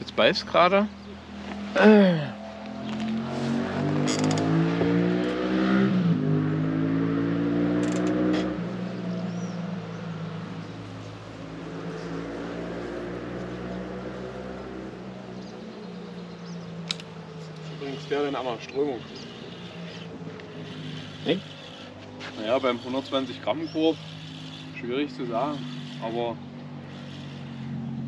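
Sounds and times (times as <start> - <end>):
engine accelerating: 1.3 - 28.0.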